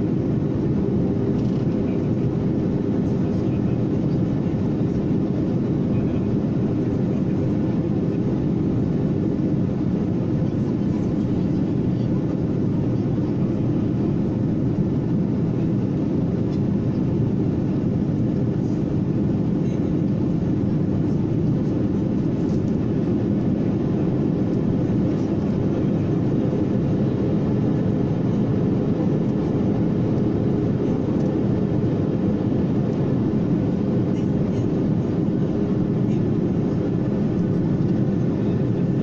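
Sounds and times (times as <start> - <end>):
jet engine cabin rumble: 0.0 - 39.0.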